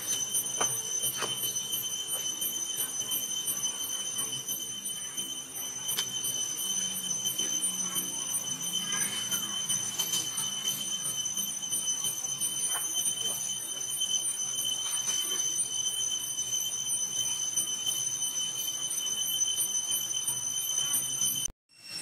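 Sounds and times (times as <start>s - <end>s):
cicada drone: 0.0s - 22.0s.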